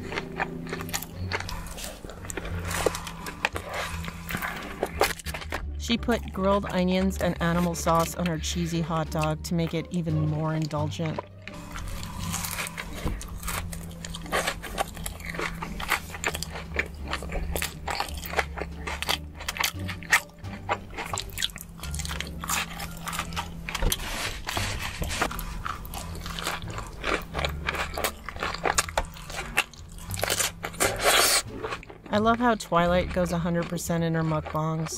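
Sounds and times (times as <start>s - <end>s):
background music with low bass: 0.0s - 34.9s
chewing and biting food: 0.0s - 34.9s.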